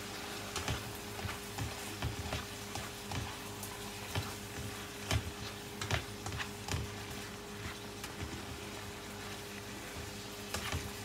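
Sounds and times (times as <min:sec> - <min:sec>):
frying sizzle: 0:00.0 - 0:11.0
spatula scraping frying pan: 0:00.4 - 0:11.0.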